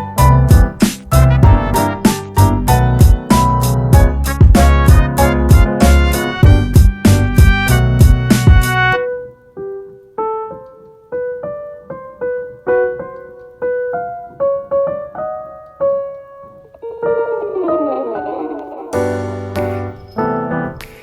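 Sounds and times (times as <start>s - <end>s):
gentle piano melody: 0.0s - 8.2s, 8.8s - 21.0s.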